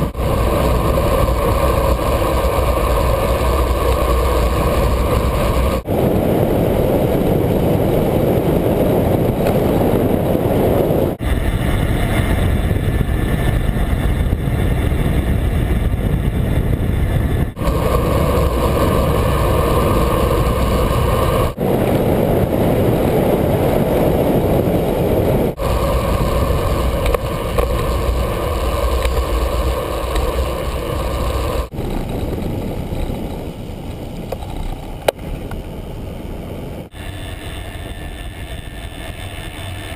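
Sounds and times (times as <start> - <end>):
bicycle road noise: 0.0 - 39.9
rushing wind: 0.0 - 39.9.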